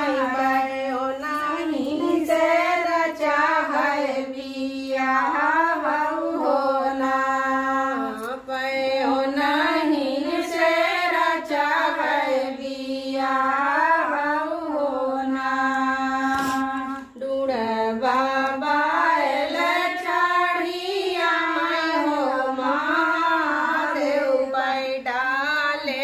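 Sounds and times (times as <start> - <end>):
women singing folk song: 0.0 - 26.0.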